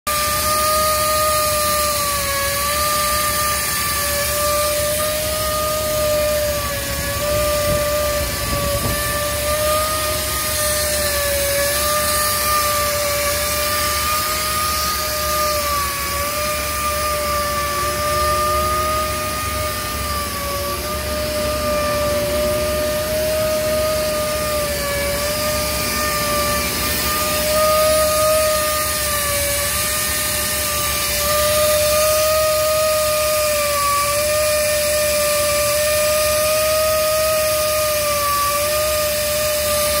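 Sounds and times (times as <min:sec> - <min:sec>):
engine room machinery roar: 0:00.1 - 0:40.0
high wavering whine: 0:00.1 - 0:40.0.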